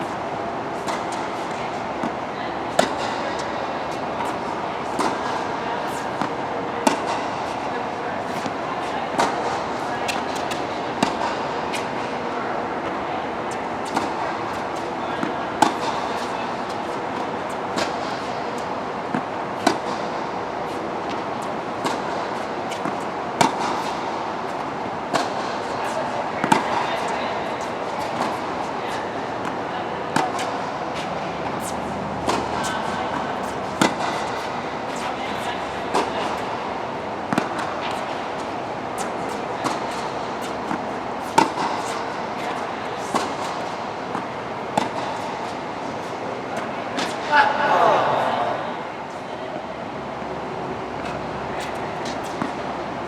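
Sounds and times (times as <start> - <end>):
steady background noise: 0.0 - 53.0
racket hitting ball: 0.8 - 12.2, 12.8 - 47.3, 51.0 - 52.8.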